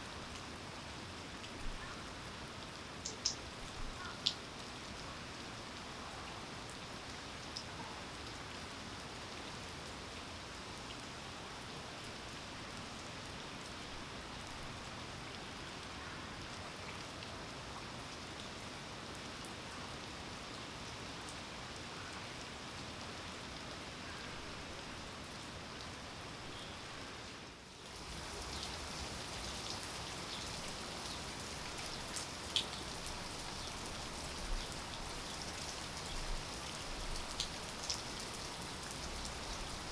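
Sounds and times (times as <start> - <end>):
rain drops ticking: 0.0 - 27.1, 27.8 - 39.9
steady rain hiss: 0.0 - 39.9.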